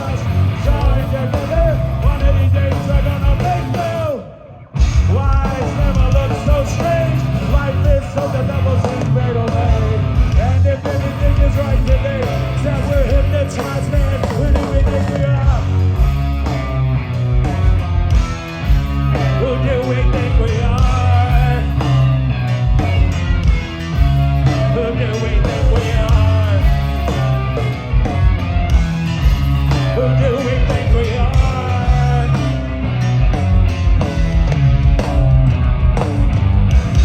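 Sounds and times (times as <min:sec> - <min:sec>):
bass guitar: 0:00.0 - 0:37.0
bending melodic guitar line: 0:00.0 - 0:37.0
drums pounding: 0:00.0 - 0:37.0
electric guitars: 0:00.0 - 0:37.0.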